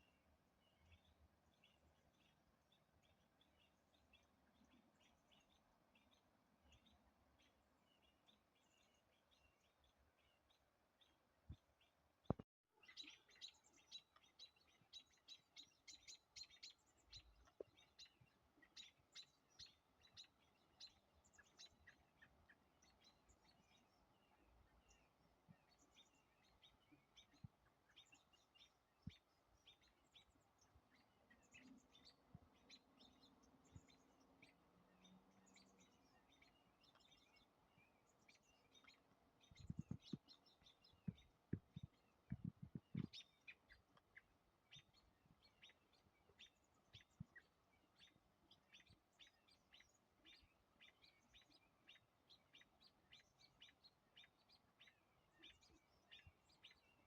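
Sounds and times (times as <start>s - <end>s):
songbirds chirping rapidly: 0.0s - 57.0s.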